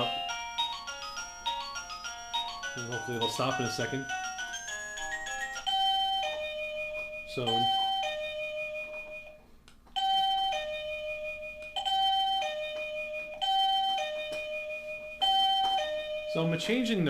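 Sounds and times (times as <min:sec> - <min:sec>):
two-note doorbell chime: 0:00.0 - 0:09.4, 0:10.0 - 0:17.0.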